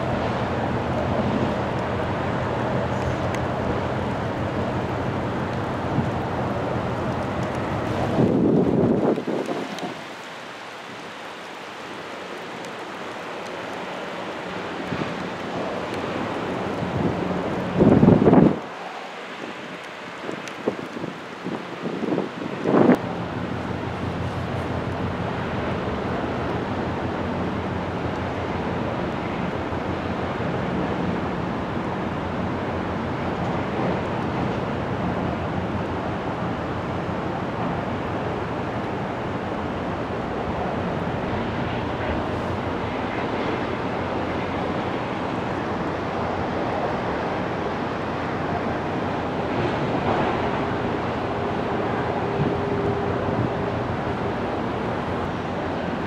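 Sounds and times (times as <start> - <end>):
wind noise on microphone: 0.0 - 10.3, 14.8 - 18.8, 19.4 - 56.0.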